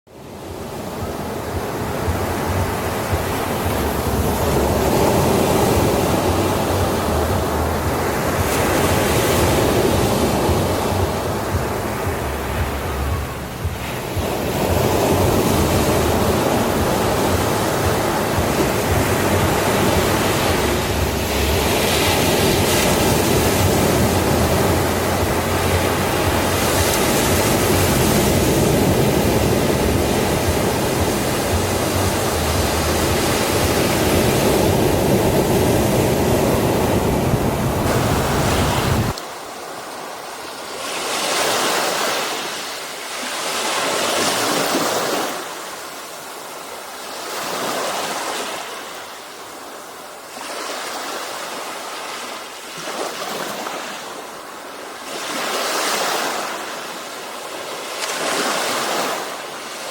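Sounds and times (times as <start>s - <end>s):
ocean surf washing onto beach: 0.1s - 59.9s.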